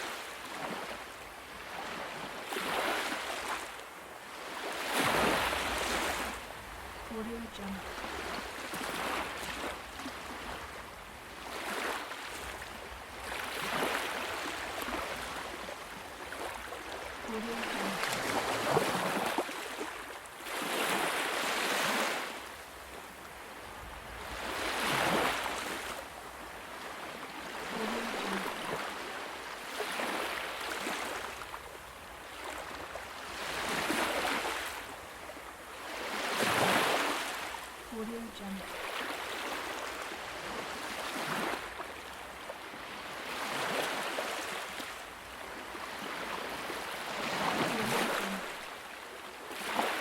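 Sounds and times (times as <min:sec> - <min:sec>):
ocean waves breaking: 0:00.0 - 0:31.6, 0:32.2 - 0:50.0.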